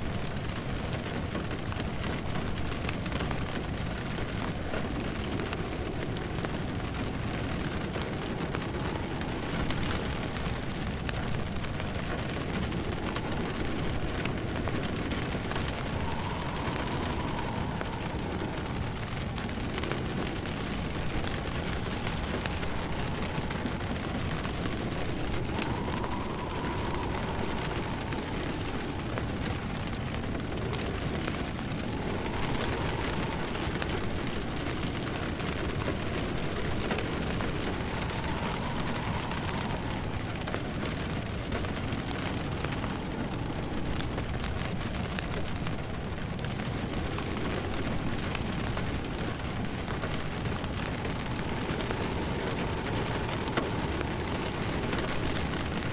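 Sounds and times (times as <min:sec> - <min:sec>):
steady rain: 0:00.0 - 0:55.9
fireplace crackling: 0:00.2 - 0:55.9
soft howl: 0:02.6 - 0:55.9.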